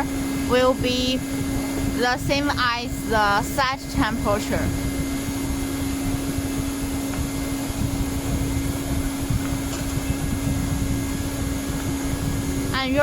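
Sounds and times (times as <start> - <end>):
welding blower humming: 0.0 - 13.0.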